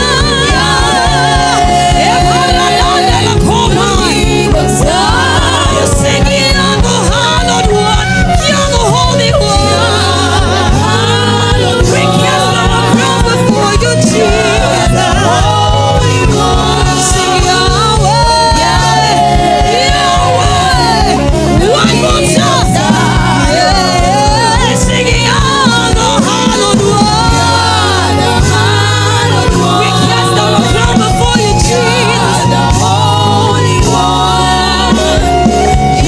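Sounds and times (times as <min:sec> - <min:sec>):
band accompaniment with bass line: 0:00.0 - 0:36.0
gospel voices singing: 0:00.0 - 0:36.0.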